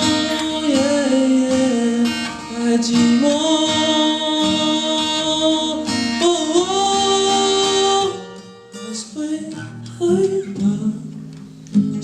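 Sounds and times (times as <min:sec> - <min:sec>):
acoustic guitar: 0:00.0 - 0:12.0
person singing pop ballad: 0:00.0 - 0:12.0.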